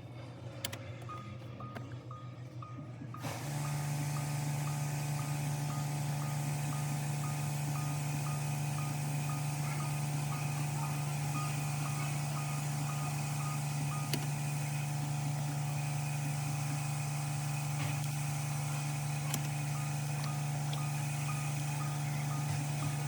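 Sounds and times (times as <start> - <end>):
steady low hum: 0.0 - 23.0
vehicle warning chime beeping: 1.1 - 15.8, 16.4 - 23.0.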